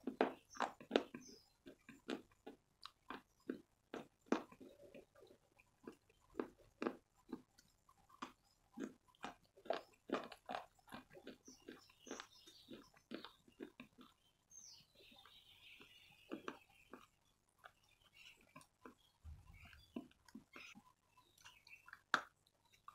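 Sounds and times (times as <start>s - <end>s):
chewing and crunching chalk: 0.0s - 22.9s.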